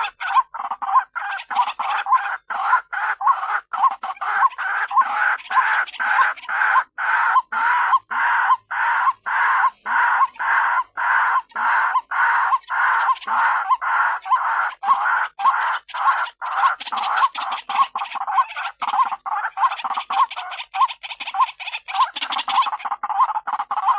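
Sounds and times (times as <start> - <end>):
waterhen calls: 0.0 - 23.9.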